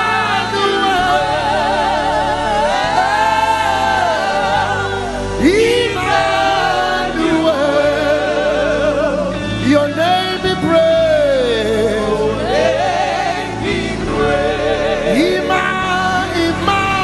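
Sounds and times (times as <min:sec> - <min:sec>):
gospel choir singing: 0:00.0 - 0:17.0
instrumental backing: 0:00.0 - 0:17.0.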